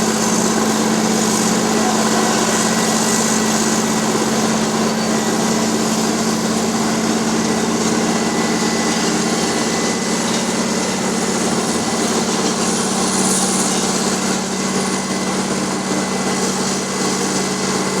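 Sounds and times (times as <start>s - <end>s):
milling machine running: 0.0s - 18.0s.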